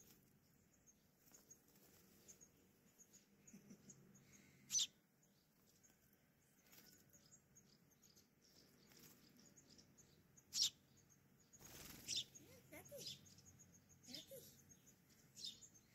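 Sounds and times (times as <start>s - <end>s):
faint bird twittering: 0.0s - 15.9s
sparrow chirping: 0.0s - 15.9s.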